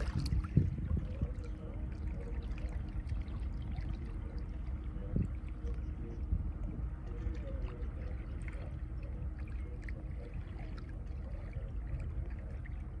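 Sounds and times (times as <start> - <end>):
low rumble: 0.0 - 13.0
water lapping at shoreline: 0.0 - 13.0.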